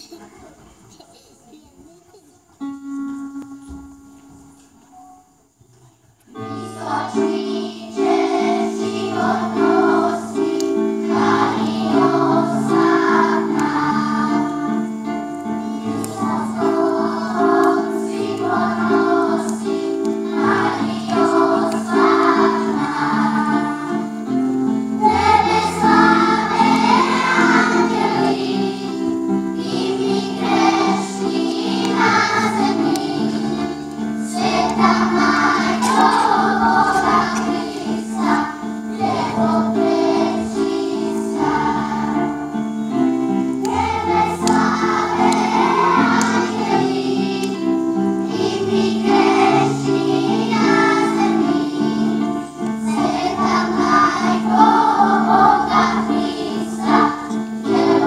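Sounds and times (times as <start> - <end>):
children's choir singing: 6.2 - 58.0.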